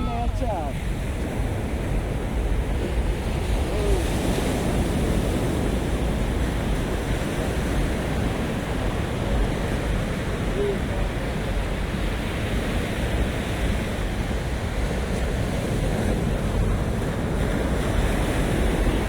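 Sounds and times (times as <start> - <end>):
sea waves washing onto beach: 0.0 - 19.0
wind rumbling on microphone: 0.0 - 19.0.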